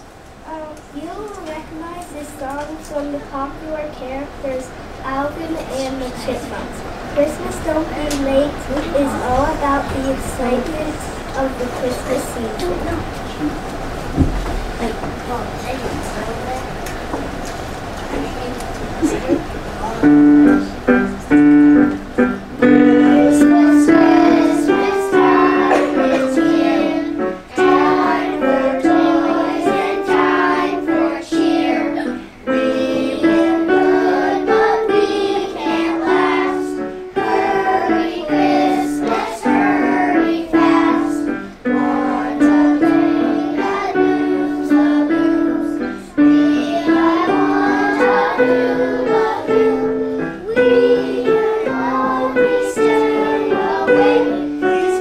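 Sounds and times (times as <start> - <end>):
young children singing: 5.0 - 13.2, 18.9 - 55.0
piano accompaniment: 7.2 - 55.0.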